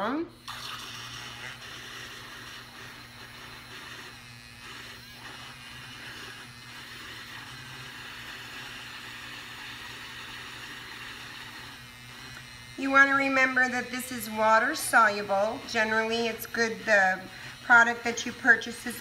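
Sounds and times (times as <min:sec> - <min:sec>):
stick blender whirring: 0:00.0 - 0:19.0.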